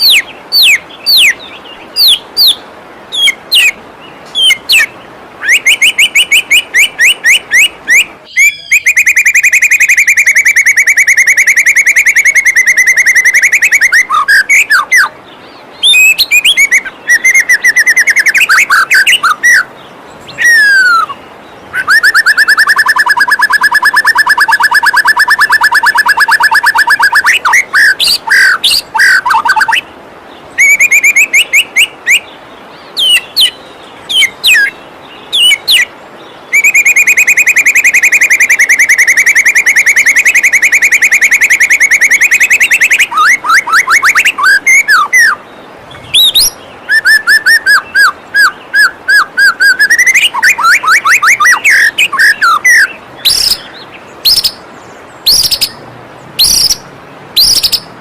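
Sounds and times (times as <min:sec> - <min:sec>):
waterfall water rushing: 0:00.0 - 0:09.6, 0:10.3 - 0:58.0
bird singing whistled notes: 0:00.0 - 0:29.9, 0:30.5 - 0:55.8, 0:56.4 - 0:57.9.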